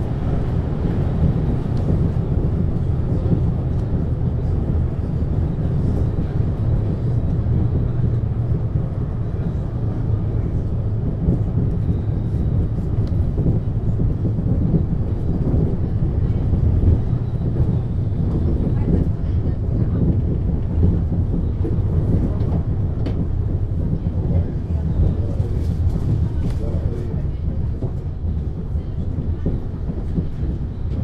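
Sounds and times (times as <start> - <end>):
railway car rumbling: 0.0 - 31.0.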